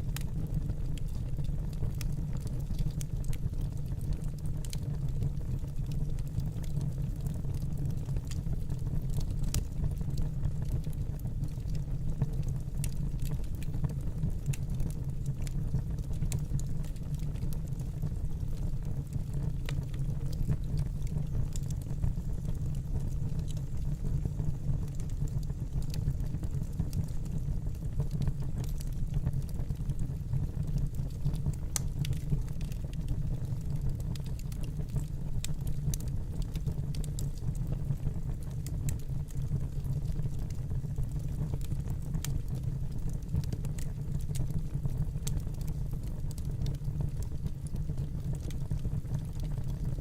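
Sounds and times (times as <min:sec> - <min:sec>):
fire crackling and popping: 0:00.0 - 0:50.0
fire rumbling: 0:00.0 - 0:50.0.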